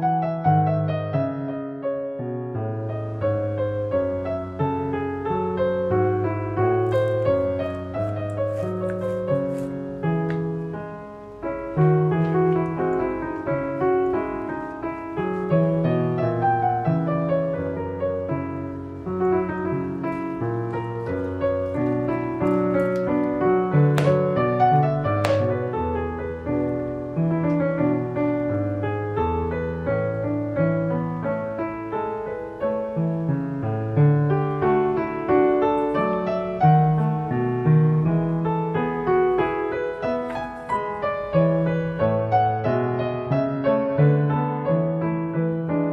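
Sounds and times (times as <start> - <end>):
piano music: 0.0 - 45.9.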